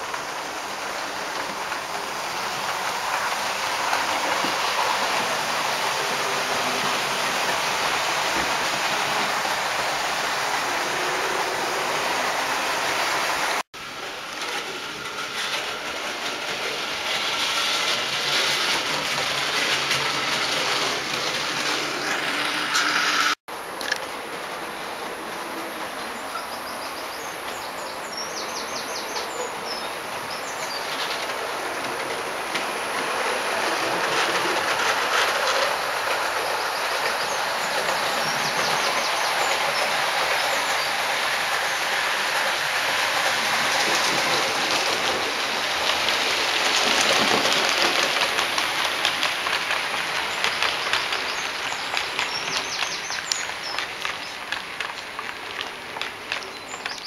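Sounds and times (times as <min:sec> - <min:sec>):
model train rumbling on track: 0:00.0 - 0:57.0.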